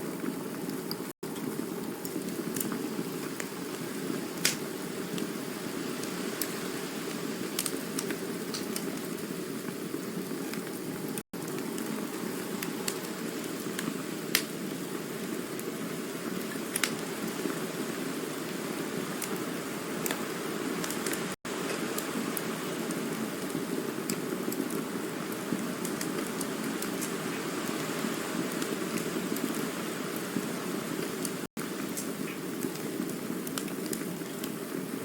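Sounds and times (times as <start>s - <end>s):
burning wood crackling and popping: 0.0s - 35.0s
rush of flame: 0.0s - 35.0s.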